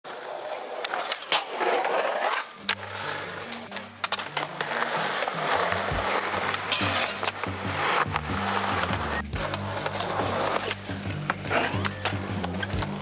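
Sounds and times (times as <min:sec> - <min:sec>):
skateboard wheels rolling on concrete: 0:00.0 - 0:13.0
skateboard clacking on ground: 0:00.4 - 0:13.0.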